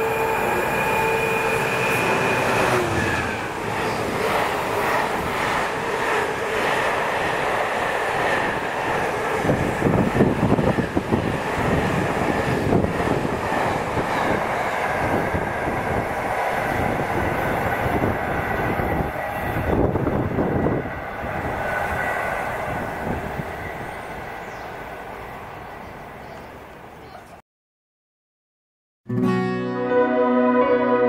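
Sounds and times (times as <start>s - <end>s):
train running past: 0.0s - 27.1s.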